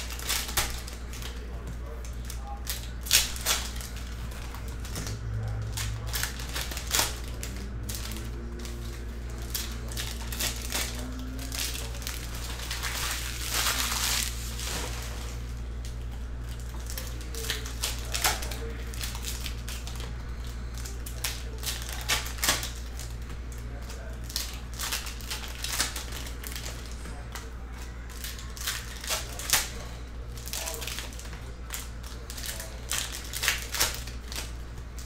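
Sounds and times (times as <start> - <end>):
card wrappers crinkling: 0.0 - 35.0.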